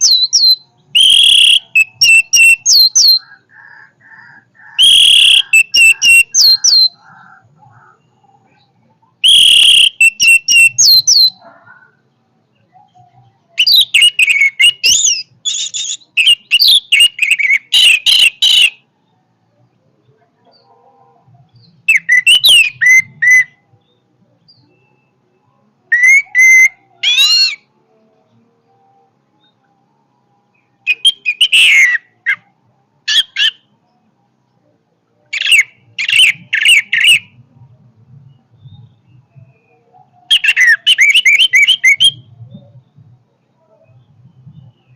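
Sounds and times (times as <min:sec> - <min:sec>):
thrush singing whistles and trills: 0:00.0 - 0:19.6, 0:21.5 - 0:34.7, 0:35.3 - 0:44.9.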